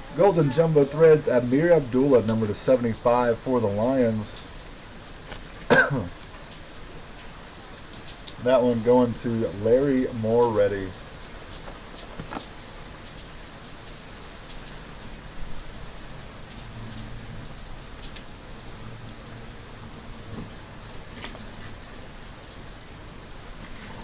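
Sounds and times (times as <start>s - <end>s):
rain falling: 0.0s - 24.0s
raindrop ticks: 0.2s - 24.0s.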